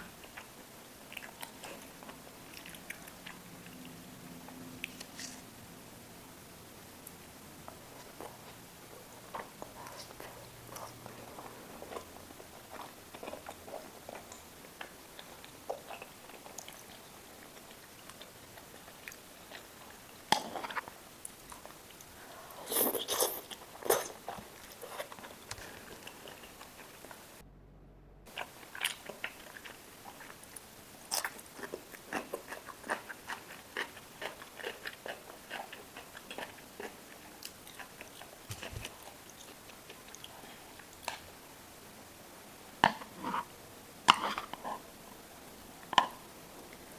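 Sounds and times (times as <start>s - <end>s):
close-miked chewing and crunching: 0.0s - 5.6s, 6.6s - 27.4s, 28.3s - 41.6s, 42.8s - 46.9s.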